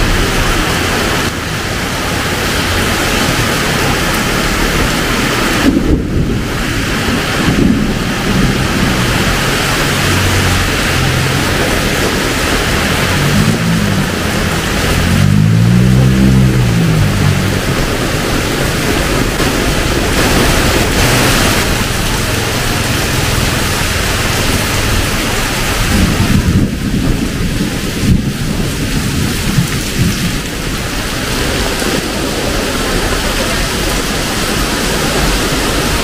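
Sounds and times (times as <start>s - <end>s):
vehicle engine passing: 0.0s - 29.2s
heavy rain pouring: 0.0s - 36.0s.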